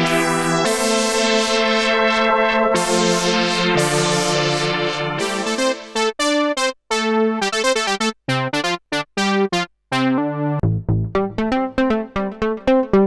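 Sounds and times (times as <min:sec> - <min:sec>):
synthesizer notes and chords: 0:00.0 - 0:13.0.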